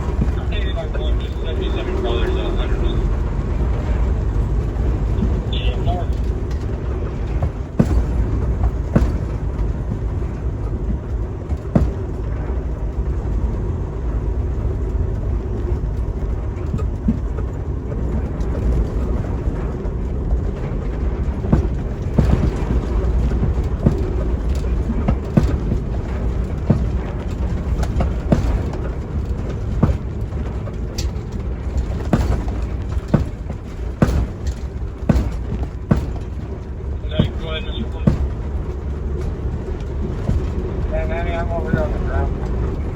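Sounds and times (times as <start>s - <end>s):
diesel truck engine rumble: 0.0s - 42.9s
knocks and rattles in cab: 0.0s - 42.9s.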